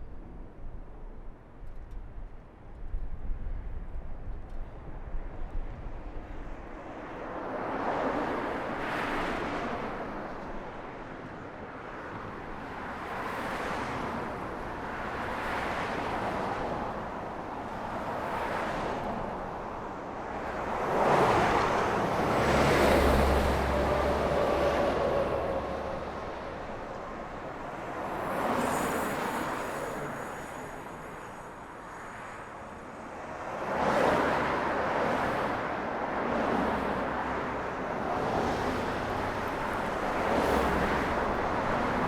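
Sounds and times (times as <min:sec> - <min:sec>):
road traffic passing: 0:07.1 - 0:42.0.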